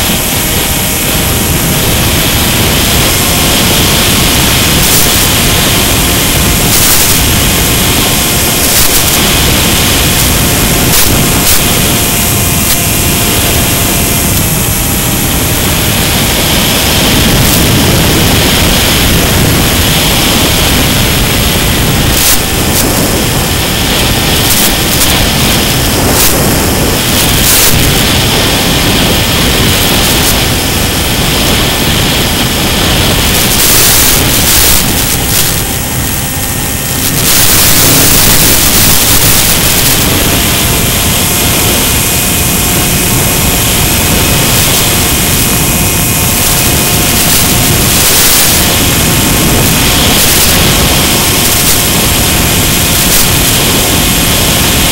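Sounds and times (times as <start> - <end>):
radio static hiss: 0.0 - 54.9
static crackles: 0.0 - 54.9.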